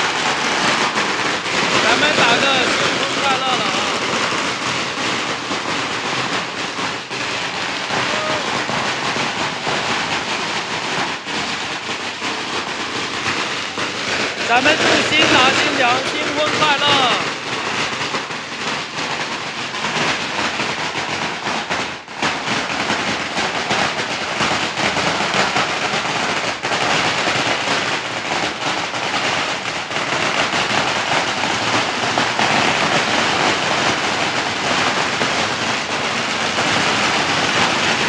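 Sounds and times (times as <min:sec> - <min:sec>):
firecrackers crackling: 0:00.0 - 0:38.0.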